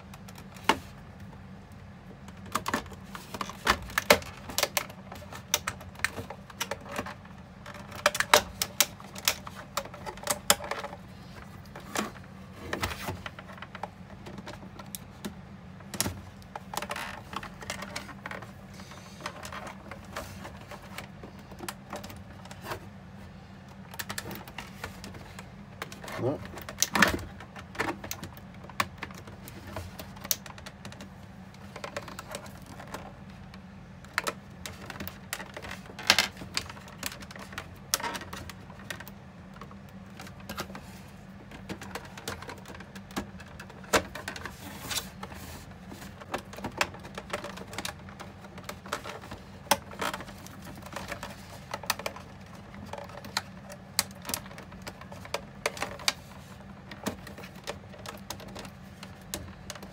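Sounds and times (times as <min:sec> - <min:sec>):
low steady hum: 0:00.0 - 0:59.9
clicks and taps on plastic casing: 0:02.0 - 0:18.6, 0:19.2 - 0:22.8, 0:23.7 - 0:44.5, 0:46.0 - 0:59.9.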